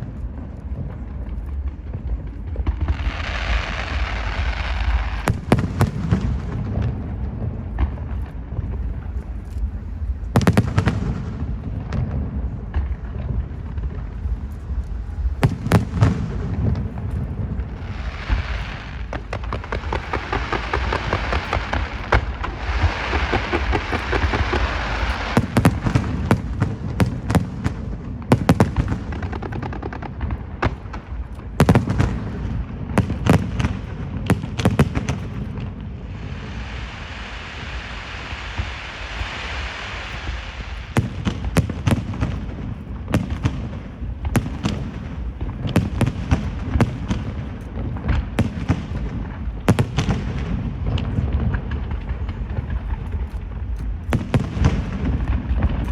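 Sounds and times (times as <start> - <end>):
low rumble: 0.0 - 49.7
dense fireworks crackling: 0.0 - 55.9
fireworks bangs: 0.0 - 55.9.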